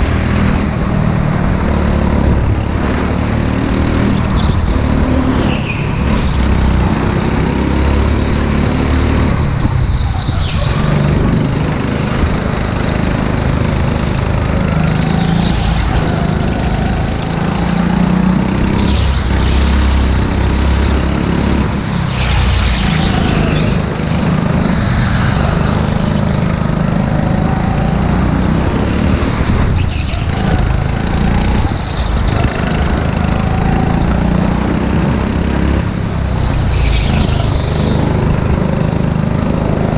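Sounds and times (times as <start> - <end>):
go-kart engine revving: 0.0 - 39.9
road and wind rumble: 0.0 - 39.9.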